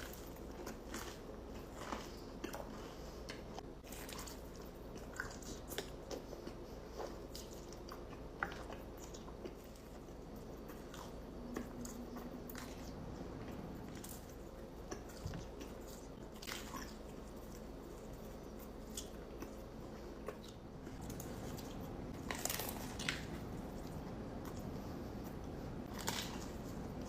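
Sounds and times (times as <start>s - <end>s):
pizza crunching and chewing: 0.0s - 27.0s.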